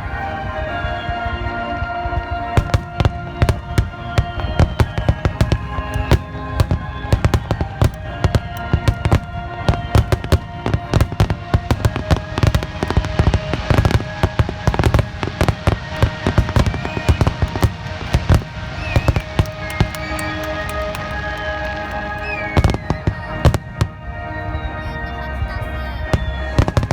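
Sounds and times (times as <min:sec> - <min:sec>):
fireworks bursts and crackling: 0:00.0 - 0:26.9
music: 0:00.0 - 0:26.9.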